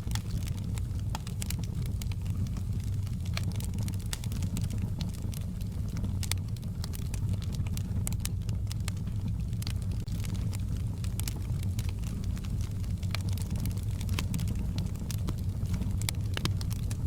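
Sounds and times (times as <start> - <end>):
campfire crackling and popping: 0.0 - 17.0
low rumble of burning: 0.0 - 17.0.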